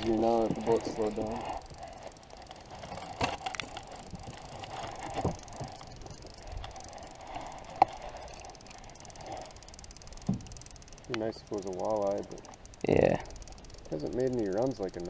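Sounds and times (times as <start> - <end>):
outboard motor running: 0.0 - 15.0
sharp knocks and clicks: 1.6 - 15.0.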